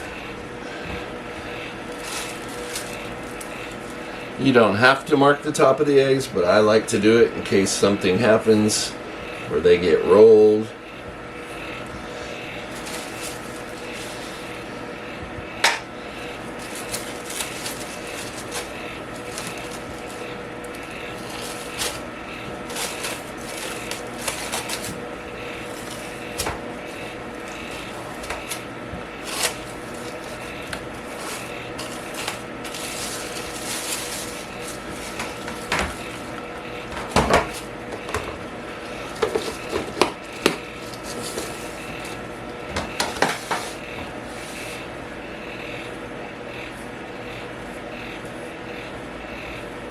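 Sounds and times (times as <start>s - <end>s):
electric fan hum: 0.0s - 49.9s.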